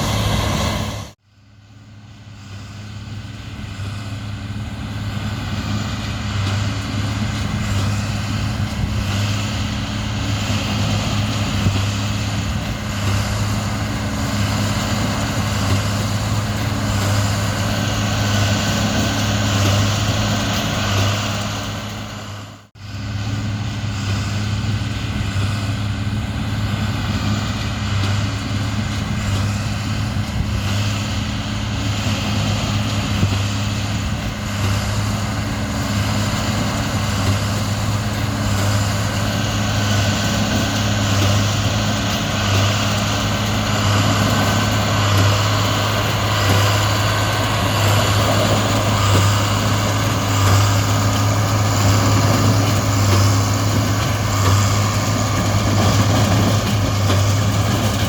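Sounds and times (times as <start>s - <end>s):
large diesel engine running: 0.0s - 58.0s.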